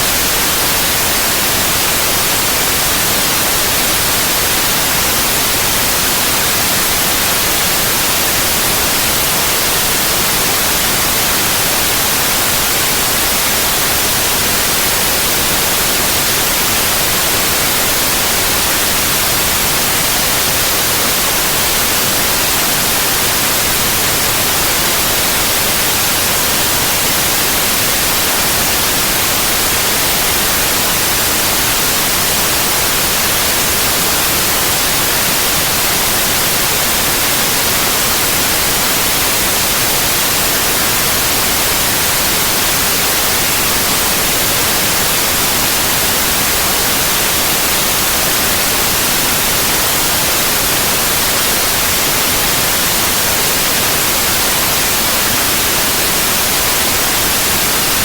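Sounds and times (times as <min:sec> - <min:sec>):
synthetic white noise hiss: 0:00.0 - 0:58.0.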